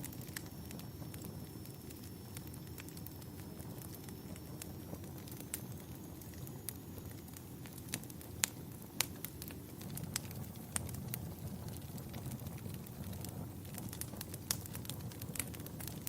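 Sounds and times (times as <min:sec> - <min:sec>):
campfire flames rushing: 0:00.0 - 0:16.0
fire crackles and pops: 0:00.0 - 0:16.0.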